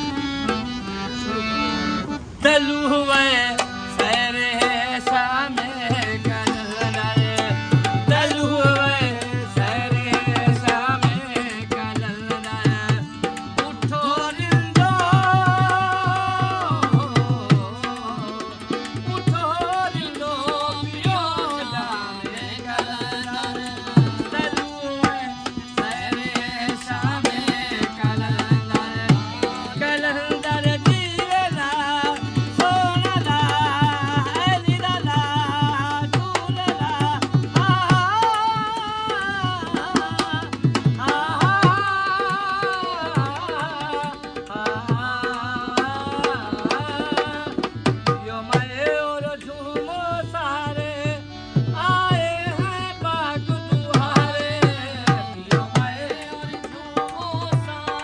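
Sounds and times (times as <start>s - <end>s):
harmonium chords: 0.0s - 58.0s
man singing: 0.0s - 58.0s.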